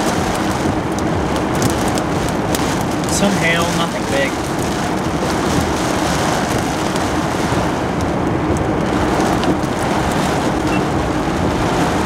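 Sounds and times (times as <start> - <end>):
raindrops ticking: 0.0 - 11.0
heavy rain on car roof: 0.0 - 12.0.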